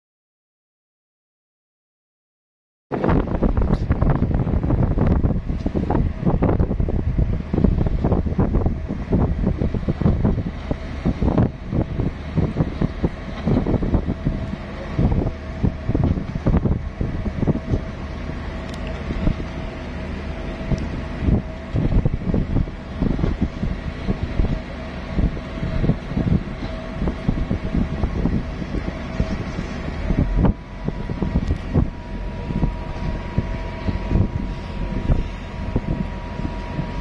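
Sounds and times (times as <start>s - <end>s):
boat engine drone: 2.9s - 37.0s
wind buffeting microphone: 2.9s - 37.0s.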